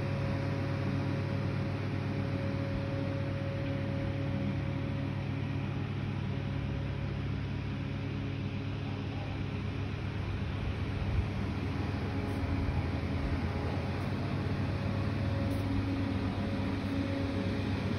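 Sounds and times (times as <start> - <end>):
low mechanical hum: 0.0 - 17.9.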